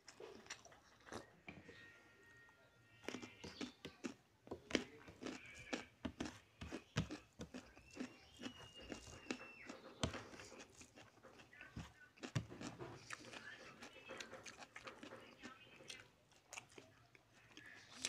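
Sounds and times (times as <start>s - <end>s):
hand squishing curry and rice: 3.0s - 18.0s.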